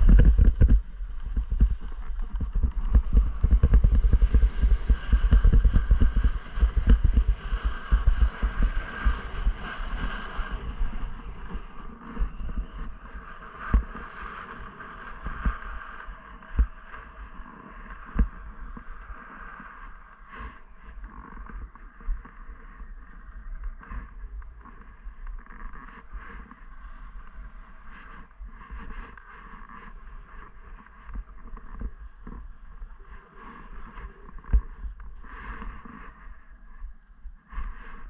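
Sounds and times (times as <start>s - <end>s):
skis scraping on snow: 0.0s - 36.8s
low rumble: 0.0s - 38.0s.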